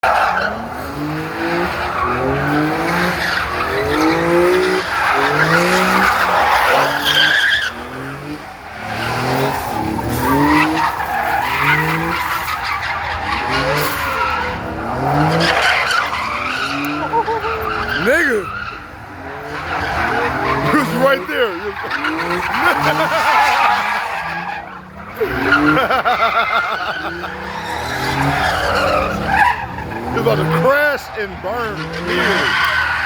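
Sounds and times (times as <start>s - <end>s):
car engine revving hard: 0.0s - 33.0s
tyres squealing: 0.0s - 33.0s.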